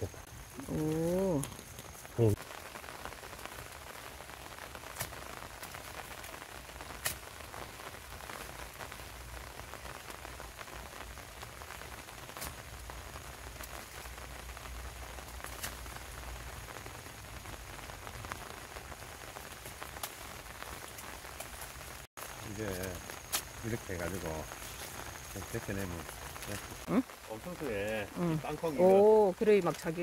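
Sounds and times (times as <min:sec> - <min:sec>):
soft pattering hiss: 0:00.0 - 0:30.0.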